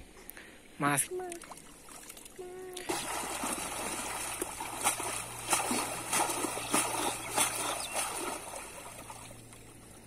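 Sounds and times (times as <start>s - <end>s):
water splashing: 0.9s - 10.0s.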